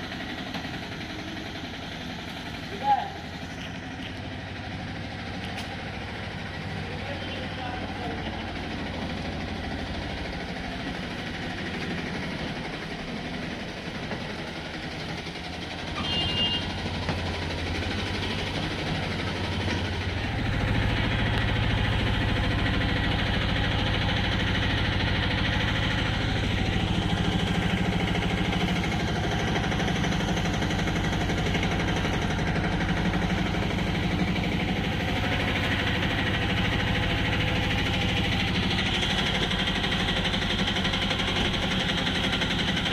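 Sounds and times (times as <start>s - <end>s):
train rumble and rattle: 0.0s - 42.9s.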